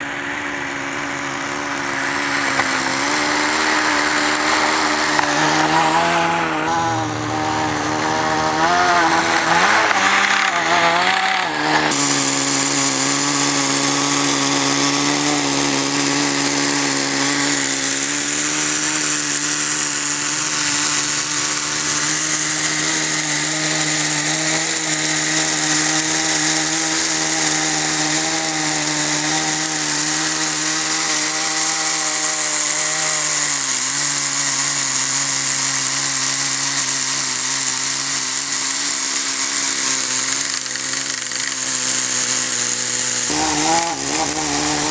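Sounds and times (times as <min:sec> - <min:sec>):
small nitro engine running: 0:00.0 - 0:44.9.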